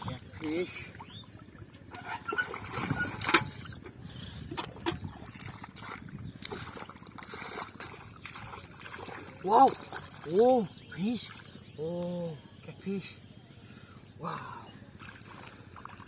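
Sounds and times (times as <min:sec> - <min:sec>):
shallow water splashing: 0:00.0 - 0:12.0, 0:14.9 - 0:16.0.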